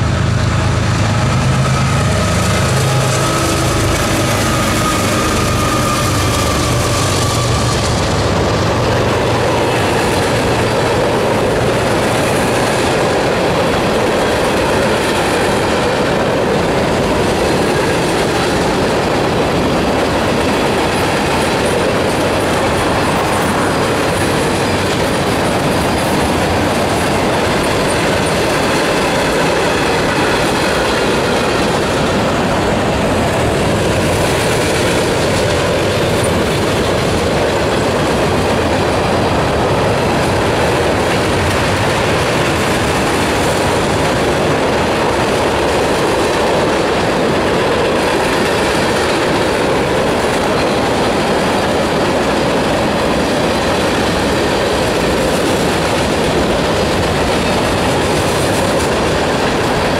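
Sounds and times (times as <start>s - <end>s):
steel train wheels on rails: 0.0s - 59.9s.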